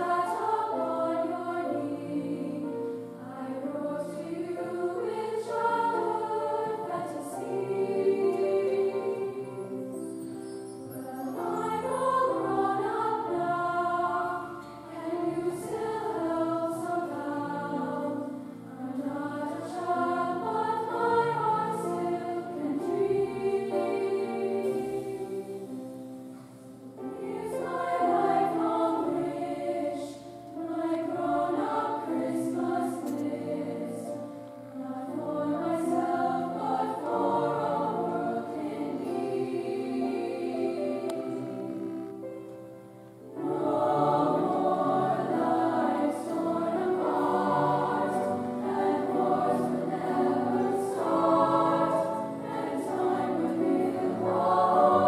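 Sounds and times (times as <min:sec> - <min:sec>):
youth choir singing: 0:00.0 - 0:26.3, 0:27.0 - 0:42.4, 0:43.3 - 0:55.0
piano accompaniment: 0:00.0 - 0:55.0.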